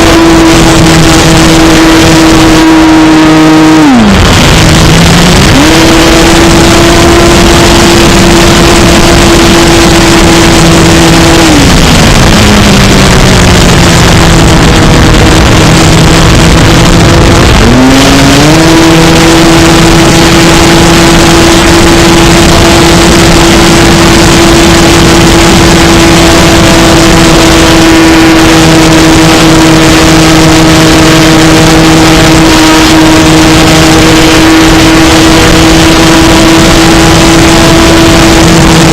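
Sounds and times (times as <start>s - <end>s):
model airplane motor whine: 0.0s - 38.9s
rush of air: 0.0s - 38.9s.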